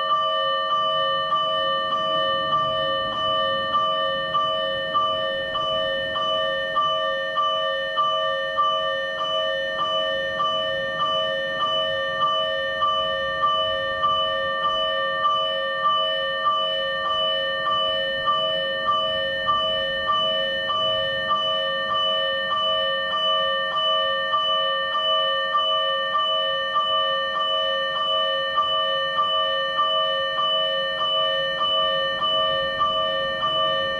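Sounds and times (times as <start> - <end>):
electronic warning bell: 0.0 - 33.9.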